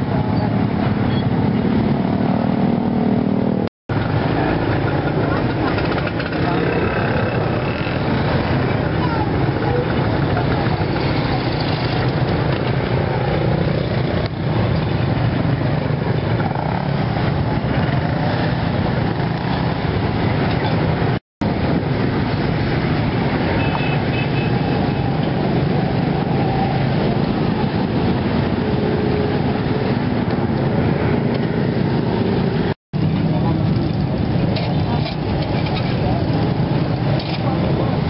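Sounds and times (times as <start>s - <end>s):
motorbikes passing close: 0.0s - 38.0s
roadside traffic noise: 0.0s - 38.0s.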